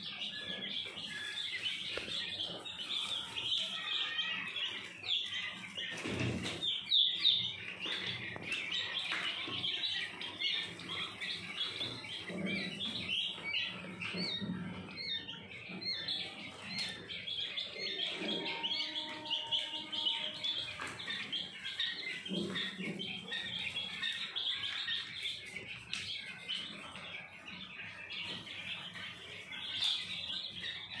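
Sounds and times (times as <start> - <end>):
quail chicks peeping: 0.0 - 31.0.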